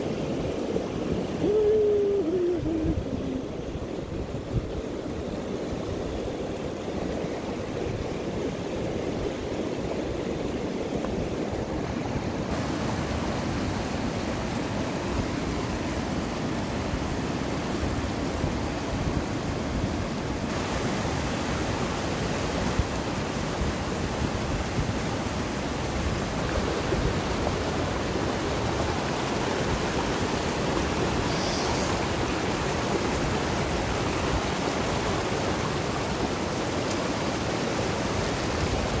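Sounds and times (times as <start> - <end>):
river rapids rushing over boulders: 0.0 - 39.0.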